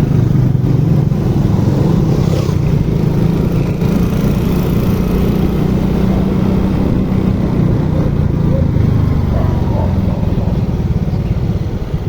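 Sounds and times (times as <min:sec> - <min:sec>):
motorcycle engine humming: 0:00.0 - 0:12.0
wind and road noise: 0:00.0 - 0:12.0.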